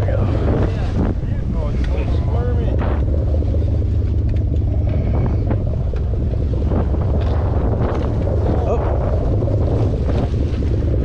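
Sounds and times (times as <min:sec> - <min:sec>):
steady low rumble: 0:00.0 - 0:11.0
wind buffeting microphone: 0:00.0 - 0:11.0.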